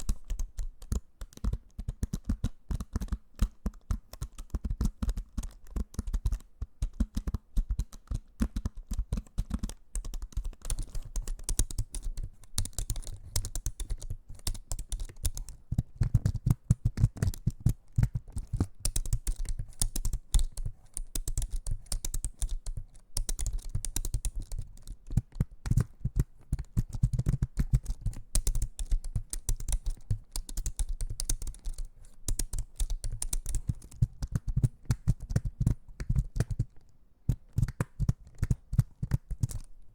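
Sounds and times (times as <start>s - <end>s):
rapid clicks and taps: 0.0s - 39.7s.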